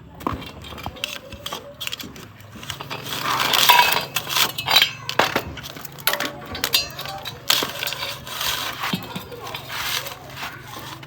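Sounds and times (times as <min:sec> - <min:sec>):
metal tools clinking and scraping: 0:00.2 - 0:11.0.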